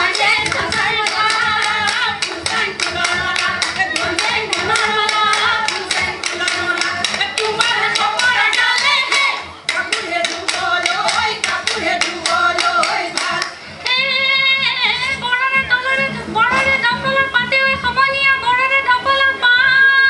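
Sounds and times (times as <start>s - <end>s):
rhythmic hand-clapping: 0.0s - 17.8s
women singing folk song: 0.0s - 20.0s.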